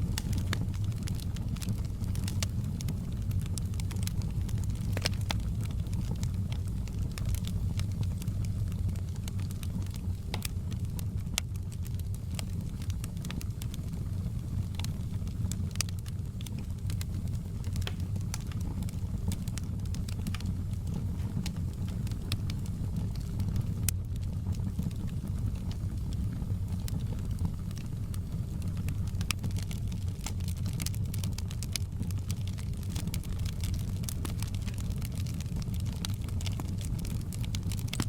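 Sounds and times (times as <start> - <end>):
fire popping and snapping: 0.0 - 38.0
low rumble of burning: 0.0 - 38.0
wood fire crackling: 0.0 - 38.0.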